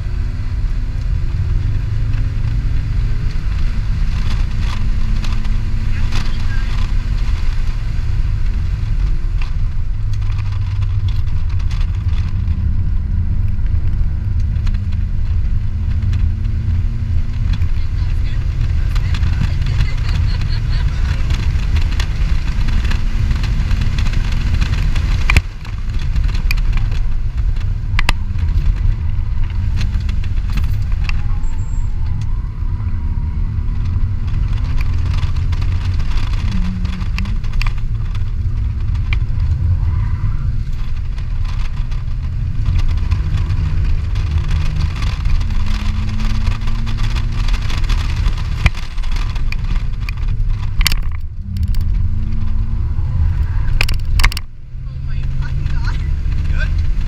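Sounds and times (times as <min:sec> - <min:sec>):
car engine revving: 0:00.0 - 0:57.0
road and wind noise: 0:00.0 - 0:57.0.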